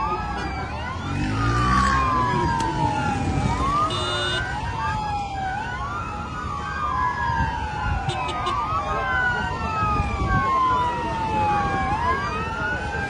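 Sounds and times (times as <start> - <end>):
police sirens wailing: 0.0 - 13.0.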